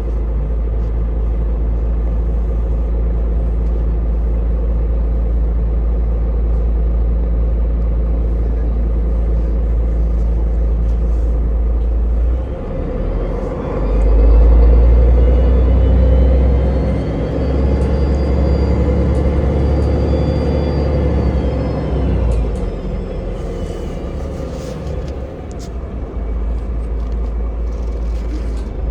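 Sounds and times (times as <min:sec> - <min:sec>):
vehicle rumble with high whine: 0:00.0 - 0:28.9.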